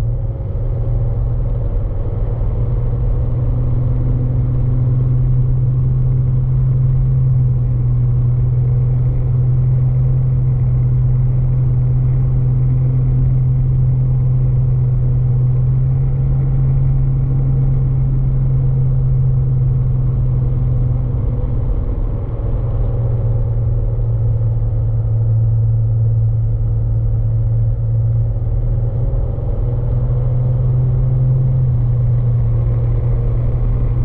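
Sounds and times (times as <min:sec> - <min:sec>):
aircraft propeller engine droning: 0:00.0 - 0:34.0.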